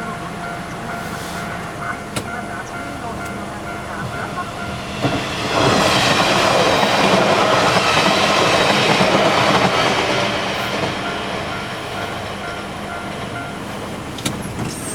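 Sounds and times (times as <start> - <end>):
diesel railcar passing: 0.0 - 14.9.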